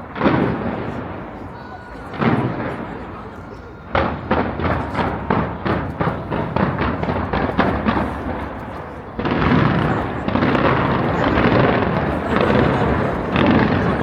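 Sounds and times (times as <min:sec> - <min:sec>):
crackling explosions: 0:00.0 - 0:01.4, 0:02.1 - 0:03.1, 0:03.9 - 0:14.0
fireworks bursting: 0:00.0 - 0:14.0.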